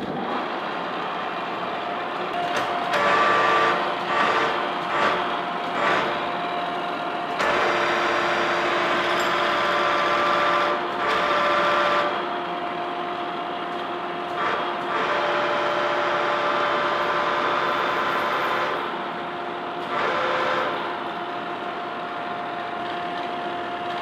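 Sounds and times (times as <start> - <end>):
machine drive whine: 0.0 - 24.0.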